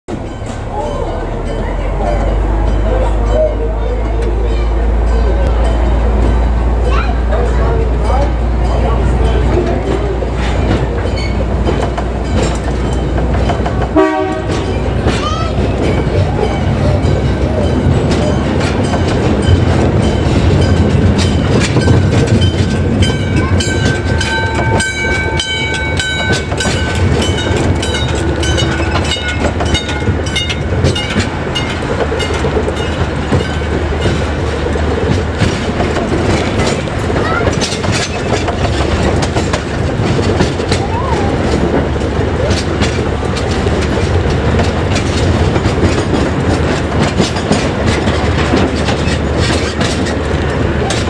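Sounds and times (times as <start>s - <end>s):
low train rumble: 0.1s - 51.0s
train wheels clicking on rail joints: 0.1s - 51.0s.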